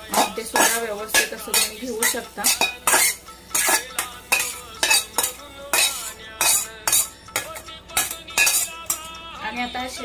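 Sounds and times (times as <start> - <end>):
metal utensil scraping metal pot: 0.1 - 9.2.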